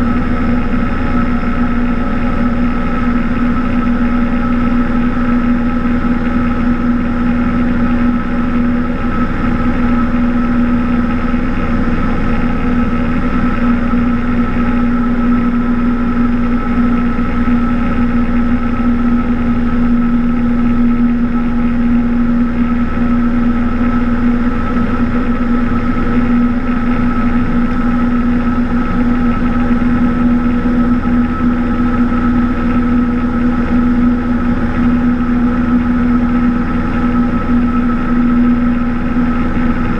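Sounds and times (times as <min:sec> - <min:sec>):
propeller aircraft engine droning: 0:00.0 - 0:39.9.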